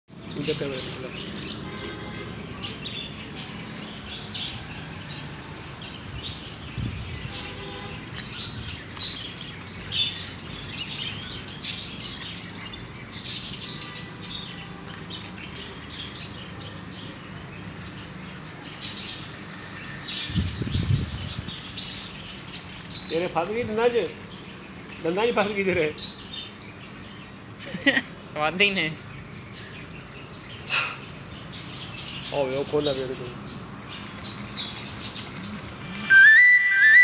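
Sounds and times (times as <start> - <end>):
parrots chirping and twittering: 0.1 - 37.0.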